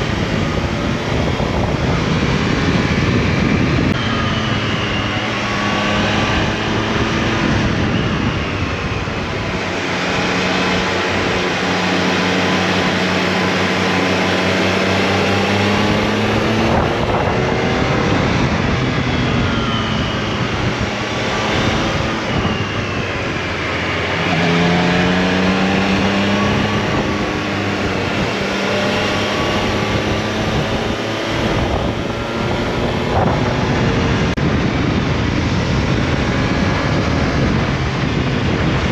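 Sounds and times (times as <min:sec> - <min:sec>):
motorcycle engine revving: 0:00.0 - 0:38.9
wind rushing over microphone: 0:00.0 - 0:38.9.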